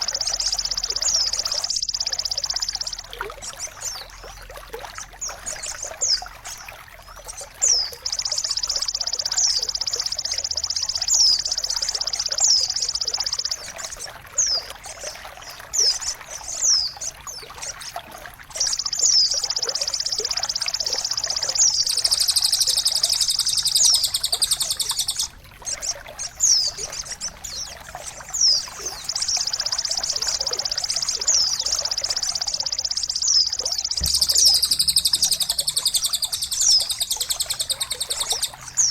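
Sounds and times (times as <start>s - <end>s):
downward-sweeping bird whistles: 0.0s - 4.2s, 7.1s - 17.8s, 18.5s - 38.9s
songbird trills: 0.0s - 38.9s
water trickling: 0.0s - 38.9s.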